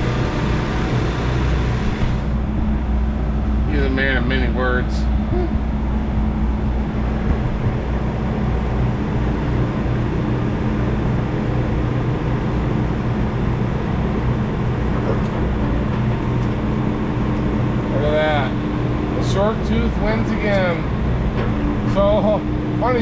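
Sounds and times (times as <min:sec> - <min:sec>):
excavator diesel engine droning: 0:00.0 - 0:23.0.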